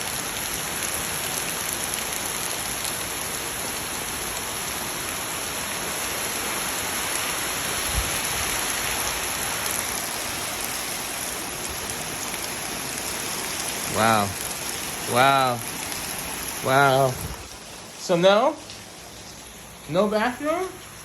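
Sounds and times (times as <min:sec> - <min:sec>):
heavy rain pattering on ground: 0:00.0 - 0:21.0.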